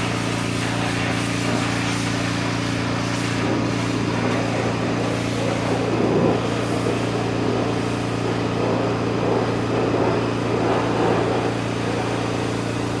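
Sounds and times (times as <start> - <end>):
mini digger engine running: 2.1 - 13.0.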